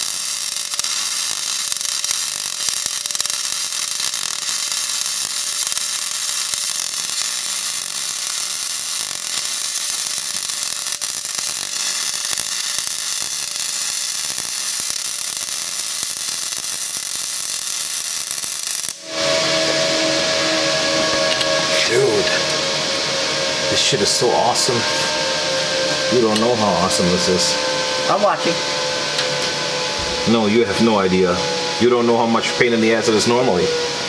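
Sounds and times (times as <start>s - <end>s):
welding arc crackling hiss: 0.0s - 34.0s.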